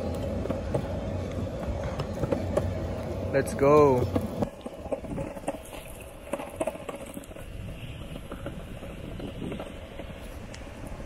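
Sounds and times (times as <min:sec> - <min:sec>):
longboard wheels rolling on bricks: 0:00.0 - 0:11.0.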